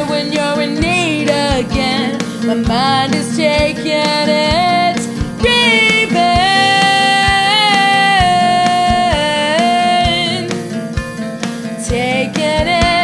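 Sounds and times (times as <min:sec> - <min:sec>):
drum hits: 0:00.0 - 0:13.0
rock song with guitar: 0:00.0 - 0:13.0.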